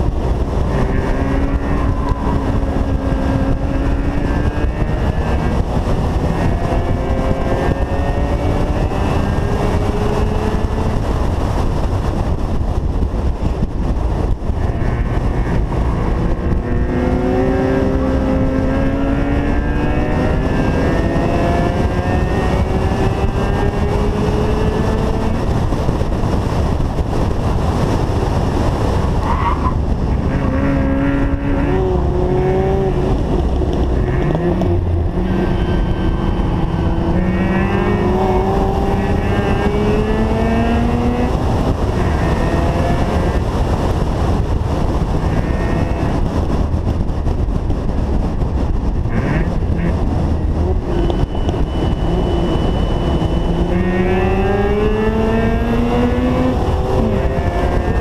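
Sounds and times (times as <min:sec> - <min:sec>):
rotary engine revving: 0:00.0 - 0:11.1, 0:14.5 - 0:25.9, 0:29.4 - 0:44.4, 0:49.0 - 0:58.0
road and wind rush: 0:00.0 - 0:58.0.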